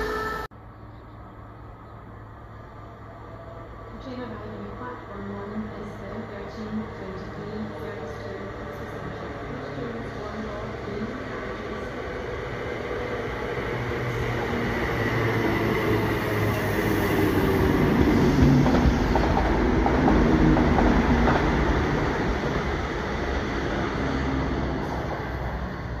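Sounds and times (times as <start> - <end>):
electric train running past: 1.2 - 26.0.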